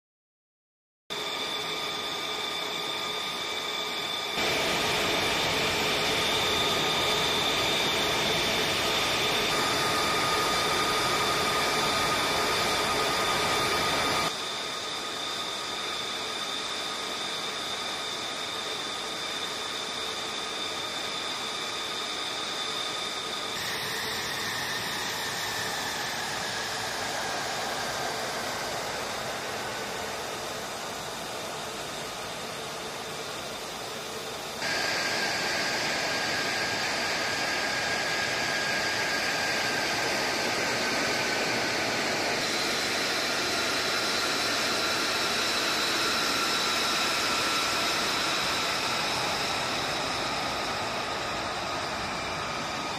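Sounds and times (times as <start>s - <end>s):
jet engine whine: 1.1s - 52.9s.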